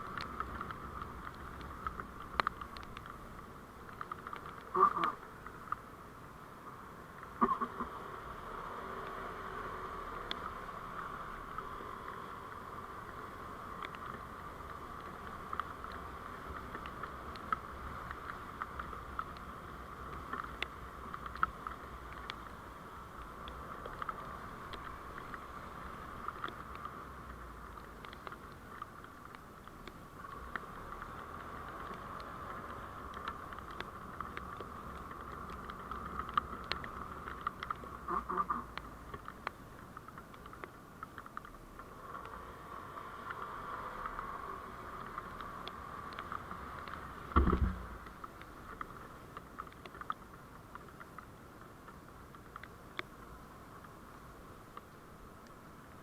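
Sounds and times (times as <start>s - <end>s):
light ticks and clicks: 0.0s - 5.9s, 7.0s - 56.0s
vehicle hum and rumble: 0.0s - 56.0s.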